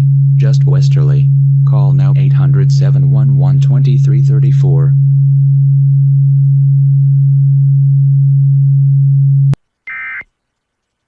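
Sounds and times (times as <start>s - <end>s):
loud steady low tone: 0.0s - 9.6s.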